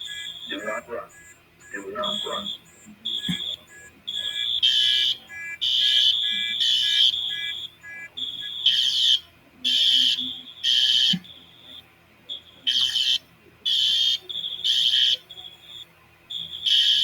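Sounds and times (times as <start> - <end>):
fire alarm high-pitched pulses: 0.0 - 17.0.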